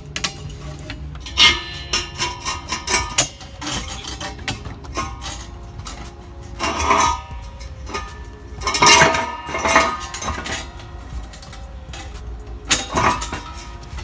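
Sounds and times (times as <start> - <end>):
metal pipes clanking: 0.0 - 14.0.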